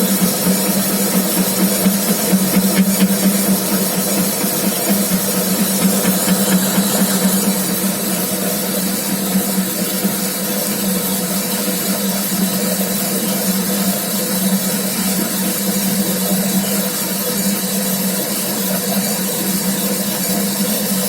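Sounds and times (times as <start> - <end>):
metal lathe motor hum: 0.0 - 21.0.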